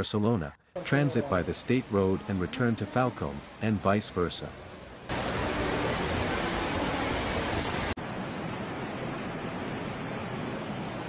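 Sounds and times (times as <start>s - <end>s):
floodwater rushing: 0.8s - 11.0s.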